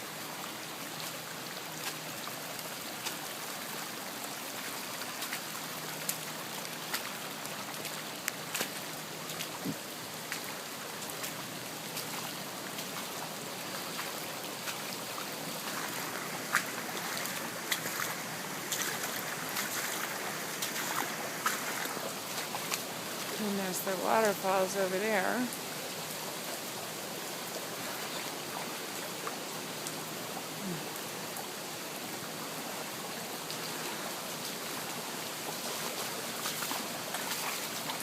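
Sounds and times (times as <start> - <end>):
floodwater rushing: 0.0 - 38.0.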